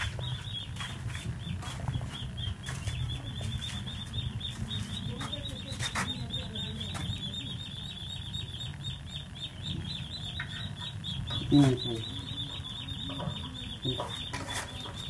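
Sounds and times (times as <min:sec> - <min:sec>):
small bird chirping rapidly: 0:00.0 - 0:15.0.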